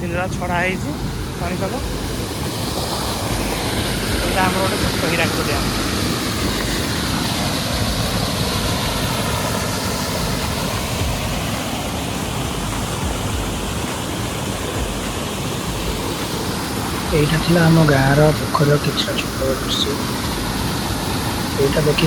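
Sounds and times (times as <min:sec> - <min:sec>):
water rushing over a dam: 0:00.0 - 0:22.0.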